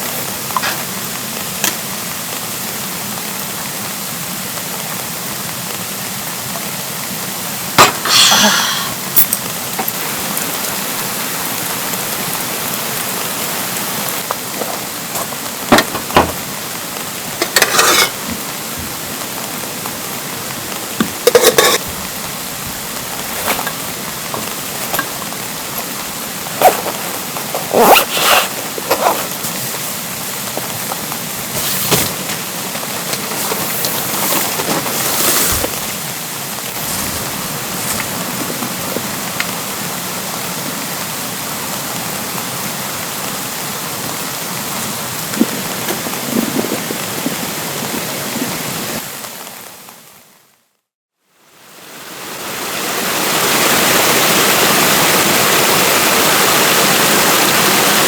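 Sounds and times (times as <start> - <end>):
rushing stream: 0.0 - 49.5, 51.6 - 58.0
steady rain: 0.0 - 58.0.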